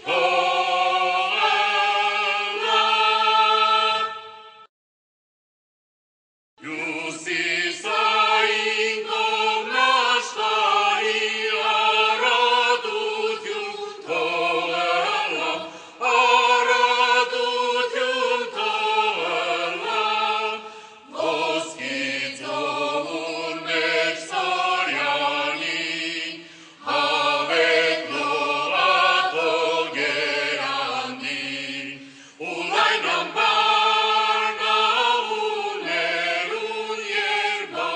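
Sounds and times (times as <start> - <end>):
voices singing a chant-like melody: 0.0 - 4.7, 6.6 - 37.9.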